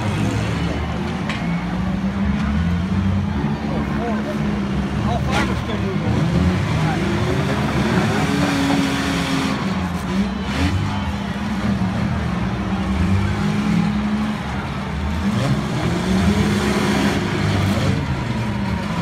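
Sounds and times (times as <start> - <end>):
demolition derby car engines revving: 0.0 - 19.0.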